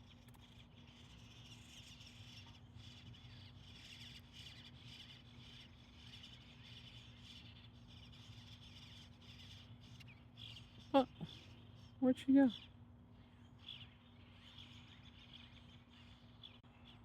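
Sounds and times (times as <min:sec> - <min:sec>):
faint high bird chirping: 0:00.0 - 0:17.0
steady low hum: 0:00.0 - 0:17.0.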